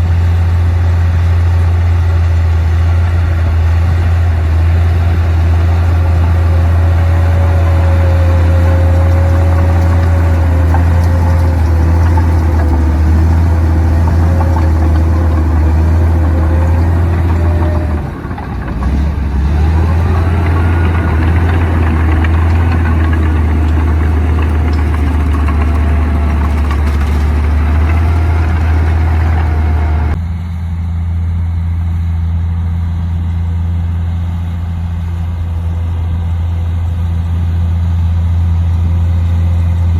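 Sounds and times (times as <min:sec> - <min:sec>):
bulldozer diesel engine whining: 0:00.0 - 0:39.9.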